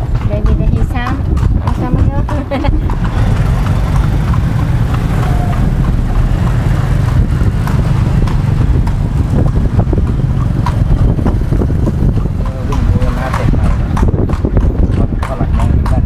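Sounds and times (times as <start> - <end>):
horse-drawn carriage road noise: 0.0 - 16.0
wind buffeting microphone: 0.0 - 16.0.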